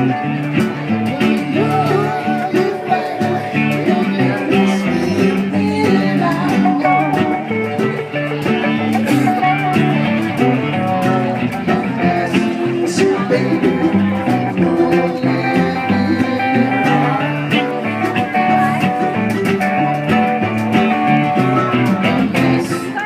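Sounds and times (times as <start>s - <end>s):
mandolin: 0.0s - 23.0s
plucked guitar: 0.0s - 23.0s.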